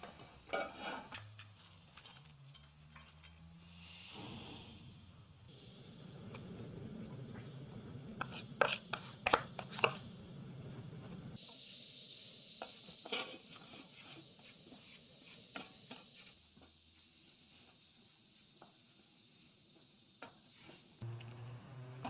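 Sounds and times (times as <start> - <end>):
gas burner hiss: 0.0 - 22.0.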